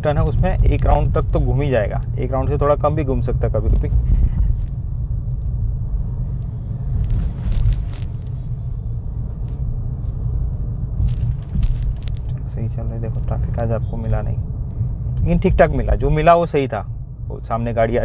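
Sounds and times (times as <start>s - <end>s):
car engine and tyres rumble: 0.0s - 18.0s
rush of noise: 0.0s - 18.0s.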